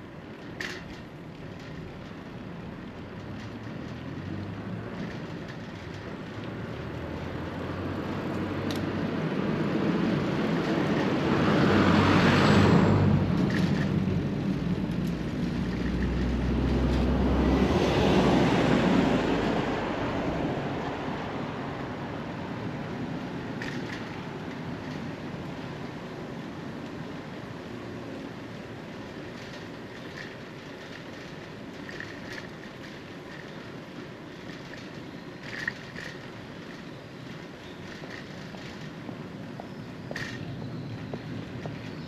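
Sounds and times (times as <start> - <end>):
motor vehicles passing: 0.6 - 42.0.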